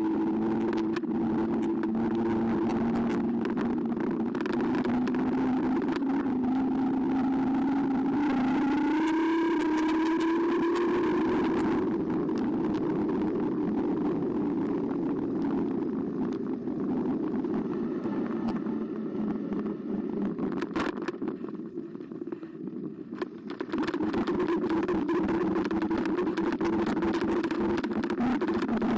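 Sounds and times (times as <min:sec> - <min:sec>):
electric bike motor hum: 0:00.0 - 0:28.9
tyre and wind noise: 0:00.0 - 0:28.9.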